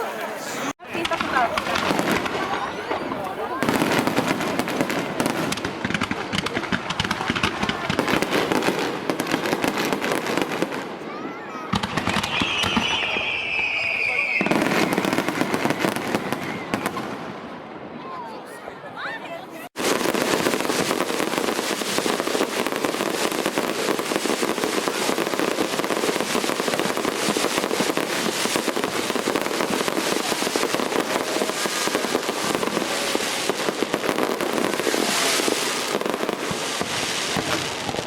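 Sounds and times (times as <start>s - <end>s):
fireworks spraying sparks crackle: 0.6s - 10.9s, 11.7s - 17.1s, 19.8s - 38.0s.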